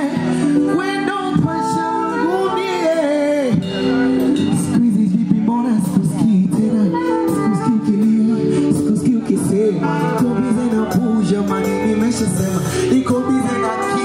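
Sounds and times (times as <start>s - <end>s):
person singing: 0.0s - 14.0s
pop music through pa system: 0.0s - 14.0s.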